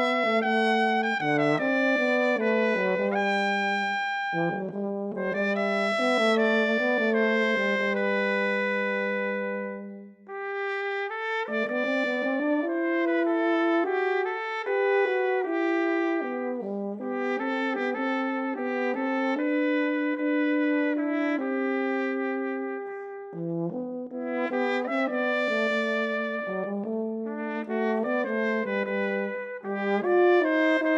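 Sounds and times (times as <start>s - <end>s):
trumpet melody: 0.0s - 30.9s.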